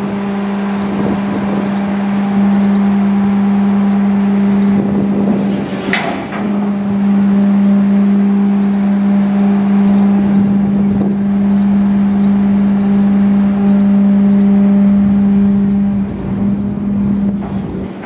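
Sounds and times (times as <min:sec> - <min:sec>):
garbage truck hydraulic packer whine: 0:00.0 - 0:18.0.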